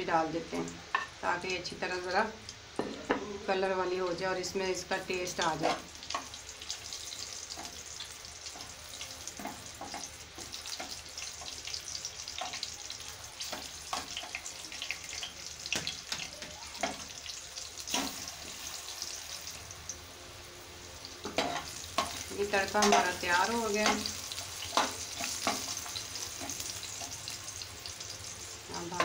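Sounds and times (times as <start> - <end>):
seeds sizzling in hot oil: 4.1 - 29.0.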